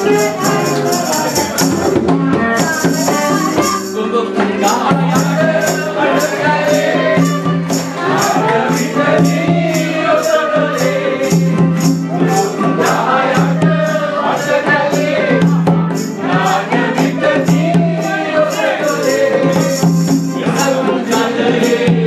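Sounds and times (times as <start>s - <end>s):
acoustic guitar: 0.0s - 22.0s
group singing: 0.0s - 22.0s
shaken percussion beat: 0.0s - 22.0s.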